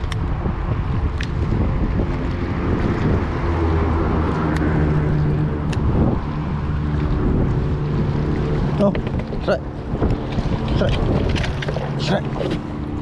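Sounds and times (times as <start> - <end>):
engine drone: 0.0 - 13.0
wind noise on microphone: 0.0 - 13.0.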